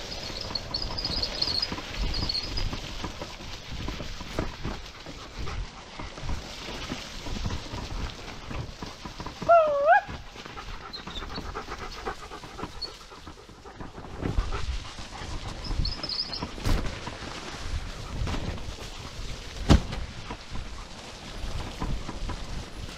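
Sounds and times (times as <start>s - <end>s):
wheels rolling over dirt trail: 0.0s - 22.9s.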